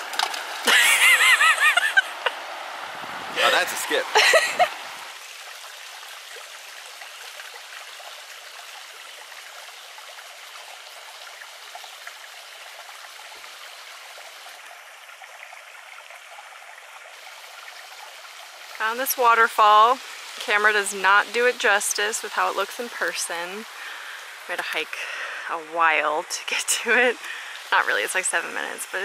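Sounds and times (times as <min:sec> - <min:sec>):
creek water splashing over stones: 0:00.0 - 0:29.0.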